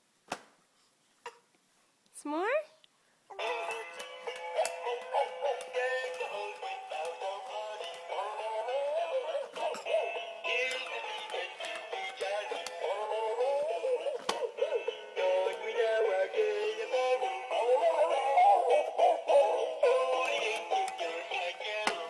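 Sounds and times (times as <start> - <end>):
tinny song from small speaker: 3.4 - 22.0.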